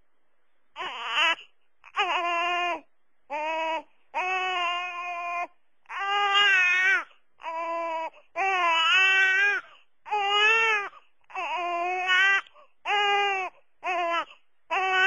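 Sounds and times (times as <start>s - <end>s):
newborn baby crying: 0.8s - 15.0s.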